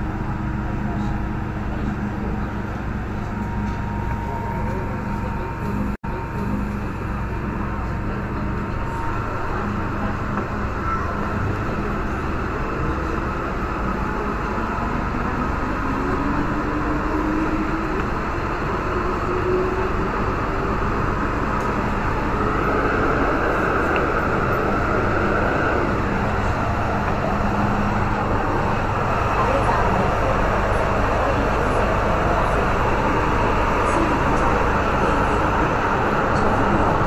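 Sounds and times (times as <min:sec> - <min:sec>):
traction motor whine: 0:00.0 - 0:37.0
wheels rumbling on track: 0:00.0 - 0:37.0.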